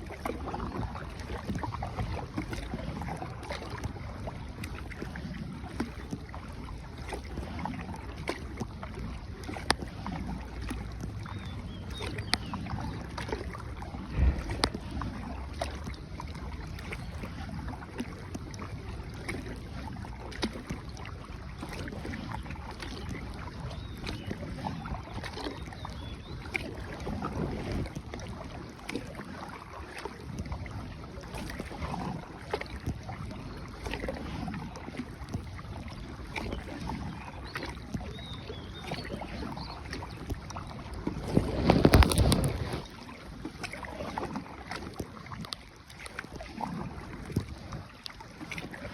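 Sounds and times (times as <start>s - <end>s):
paddles splashing through water: 0.0s - 48.9s.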